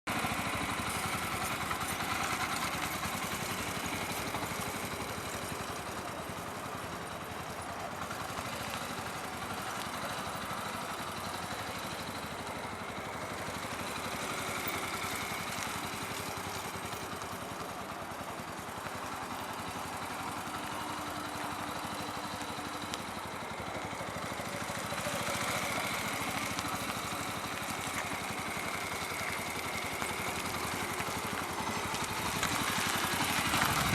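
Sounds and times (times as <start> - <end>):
motorcycle engine running at low revs: 0.1 - 33.9.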